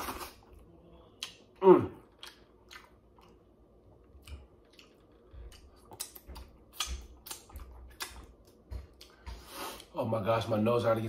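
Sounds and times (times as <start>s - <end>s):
wet chewing and sucking mouth sounds: 0.0s - 10.0s.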